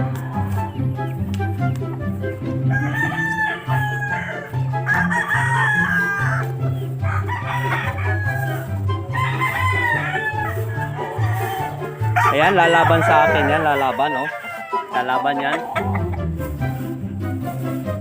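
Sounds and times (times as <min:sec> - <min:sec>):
background music with bass line: 0:00.0 - 0:18.0
roosters crowing: 0:00.0 - 0:18.0.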